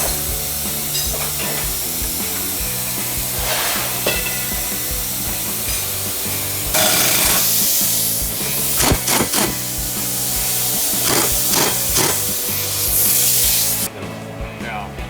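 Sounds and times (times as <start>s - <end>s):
loud hissing burst: 0.0s - 13.9s
workshop tool noises: 0.0s - 13.9s
background music with steady beat: 0.0s - 15.0s.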